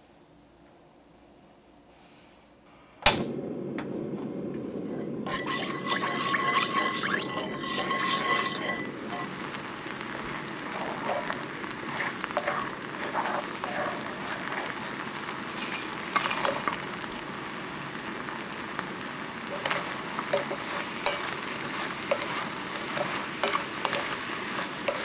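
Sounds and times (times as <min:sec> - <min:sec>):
sauce bubbling and sizzling: 0:03.3 - 0:25.0
wooden spoon stirring in pan: 0:04.8 - 0:25.0.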